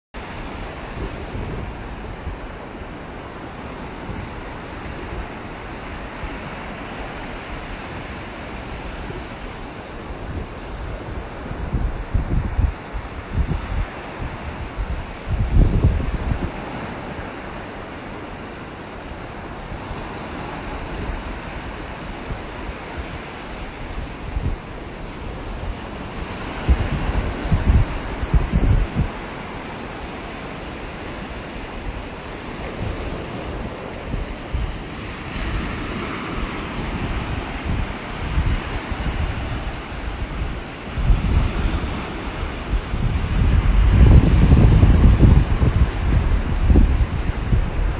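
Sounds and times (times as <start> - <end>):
ocean surf washing on beach: 0.2 - 47.9
wind buffeting microphone: 0.2 - 47.9.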